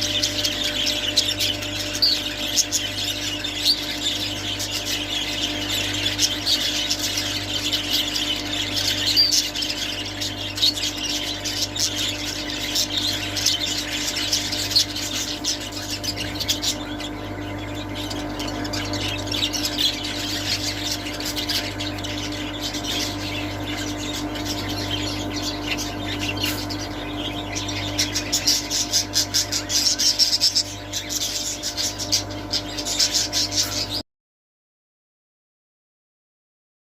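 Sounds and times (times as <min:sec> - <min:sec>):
budgerigars chattering and squawking: 0:00.0 - 0:34.0
steady low hum: 0:00.0 - 0:34.0.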